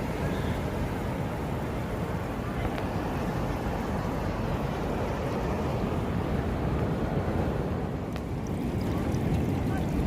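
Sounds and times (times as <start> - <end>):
sea surf at the shore: 0.0 - 10.0
wind: 0.0 - 10.0.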